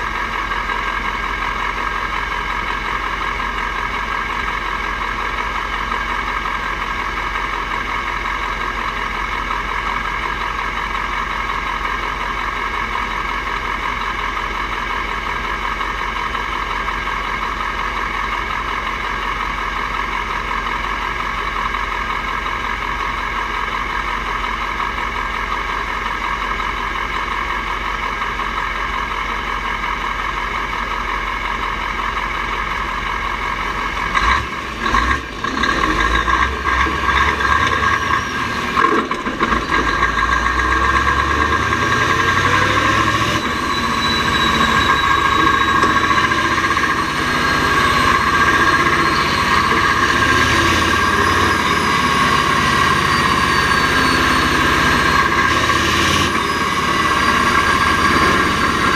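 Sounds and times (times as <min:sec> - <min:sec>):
diesel truck engine running: 0:00.0 - 0:58.9.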